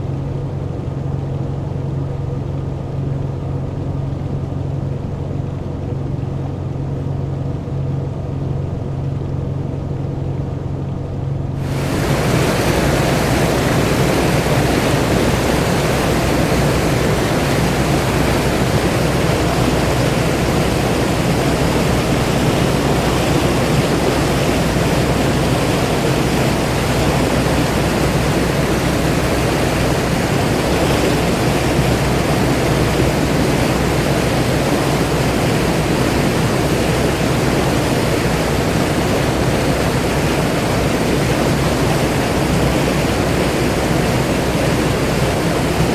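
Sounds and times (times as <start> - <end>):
boat engine drone: 0.0 - 45.9
water rushing along boat hull: 0.0 - 45.9.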